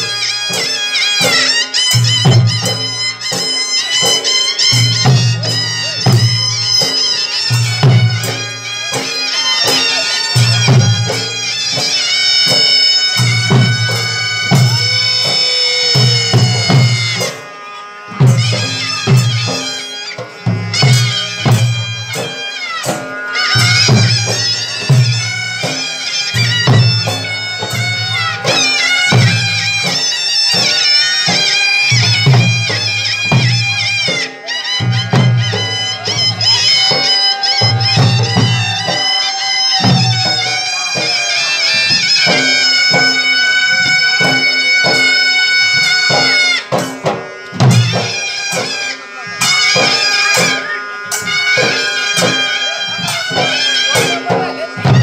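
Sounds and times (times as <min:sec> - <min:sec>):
reed wind instrument: 0:00.0 - 0:55.0.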